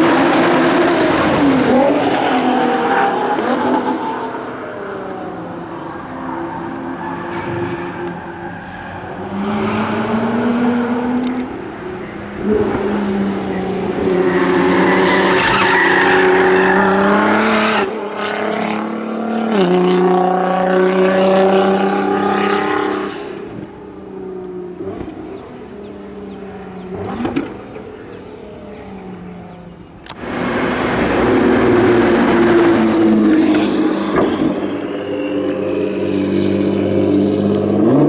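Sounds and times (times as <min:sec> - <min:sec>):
car engine driven hard: 0:00.0 - 0:38.0.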